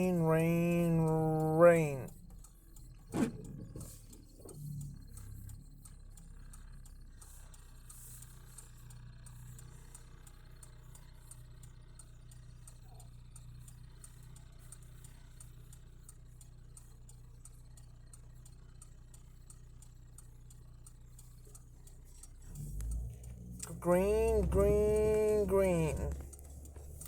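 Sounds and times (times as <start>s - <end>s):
car engine idling: 0.0s - 27.0s
turn signal ticking: 0.0s - 27.0s.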